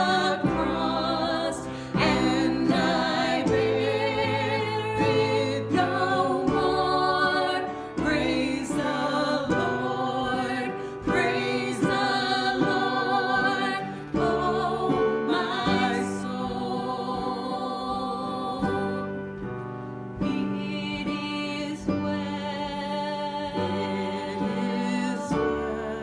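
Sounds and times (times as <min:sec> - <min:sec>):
gospel song with instruments: 0:00.0 - 0:26.0.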